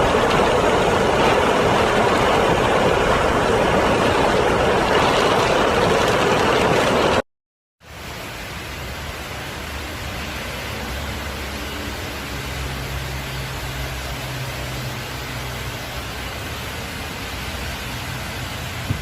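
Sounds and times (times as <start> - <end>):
heavy rain hissing: 0.0 - 7.2, 7.8 - 19.0.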